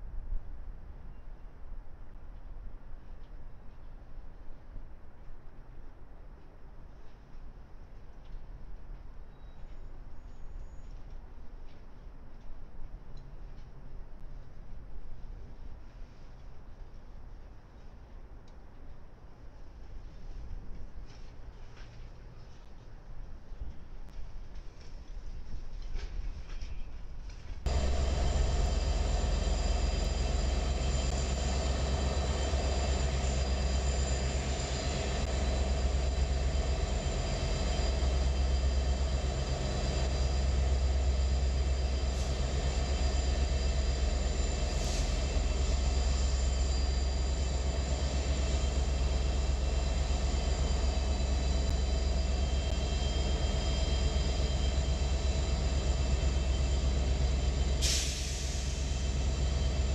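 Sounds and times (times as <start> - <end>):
diesel locomotive engine drone: 2.0 - 59.9
train rumbling: 2.2 - 59.9.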